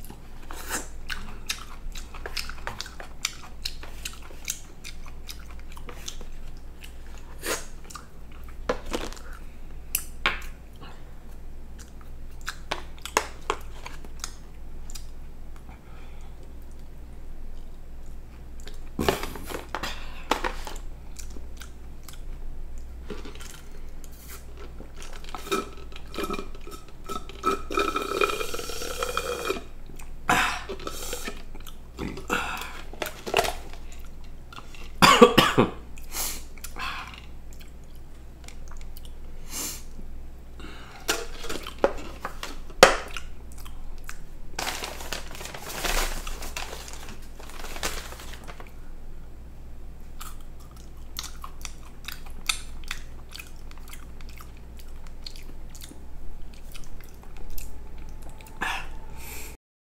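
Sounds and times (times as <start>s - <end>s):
chewing: 0.0s - 15.7s, 17.5s - 19.8s, 20.6s - 35.0s, 36.0s - 39.2s, 41.0s - 48.7s, 50.1s - 59.0s.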